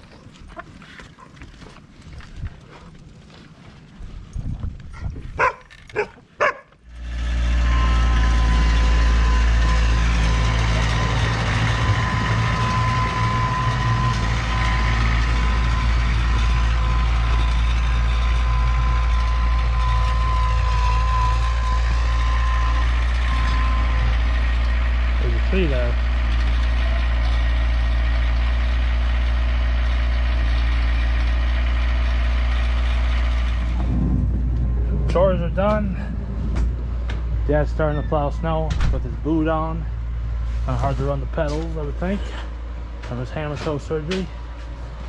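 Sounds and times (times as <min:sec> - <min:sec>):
vehicle engine idling with whine: 0:06.8 - 0:45.0.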